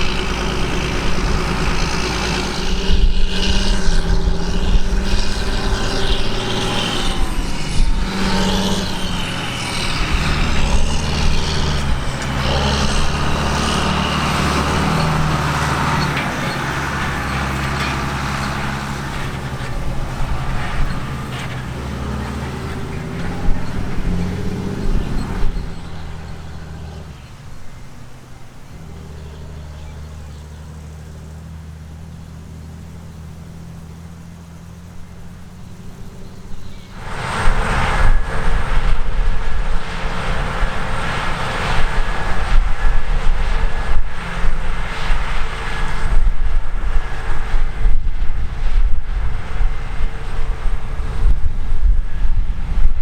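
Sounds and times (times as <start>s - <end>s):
diesel engines droning: 0.0s - 53.0s.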